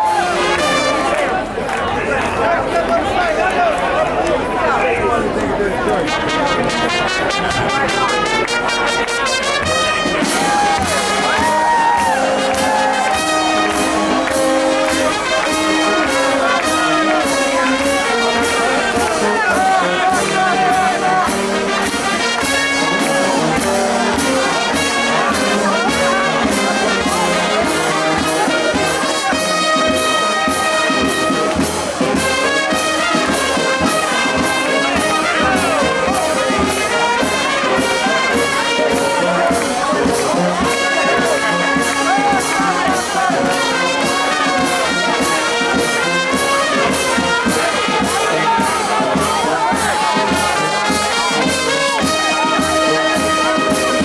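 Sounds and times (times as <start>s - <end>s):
brass band playing: 0.0s - 1.9s, 5.3s - 54.0s.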